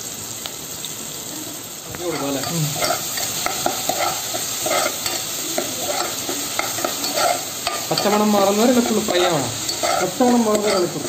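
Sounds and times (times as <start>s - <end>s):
food sizzling in hot oil: 0.0s - 11.0s
steel spatula stirring and scraping: 2.0s - 11.0s.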